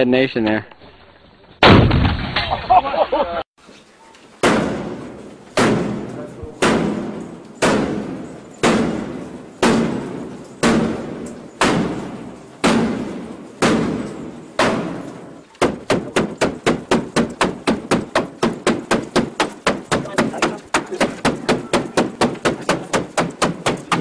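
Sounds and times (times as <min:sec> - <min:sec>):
heavy blows on wooden door: 0:04.4 - 0:24.0.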